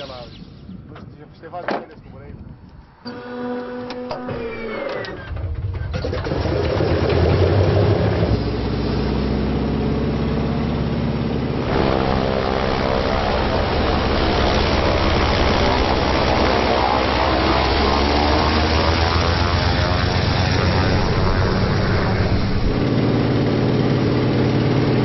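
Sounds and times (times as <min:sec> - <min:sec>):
biplane engine and propeller: 0:00.0 - 0:25.0.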